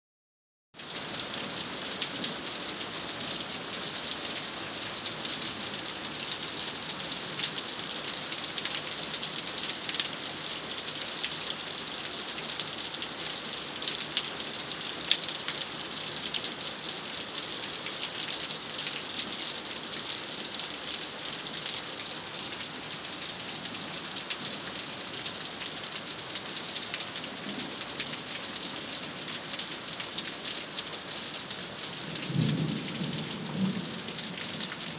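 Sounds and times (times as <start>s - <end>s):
heavy rain patter: 0.8s - 34.9s.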